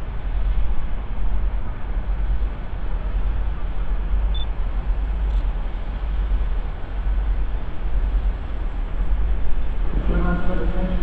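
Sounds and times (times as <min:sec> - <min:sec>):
railway station rumble: 0:00.0 - 0:11.0.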